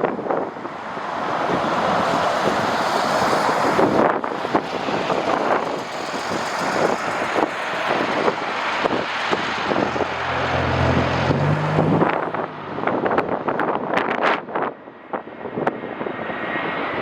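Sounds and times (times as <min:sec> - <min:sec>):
low engine hum: 0:00.0 - 0:16.9
gusty wind on microphone: 0:00.0 - 0:17.0.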